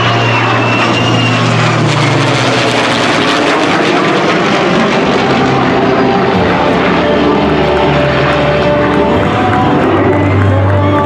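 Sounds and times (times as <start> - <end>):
jet roaring with high whine: 0.0 - 11.0
low propeller drone: 0.0 - 11.0.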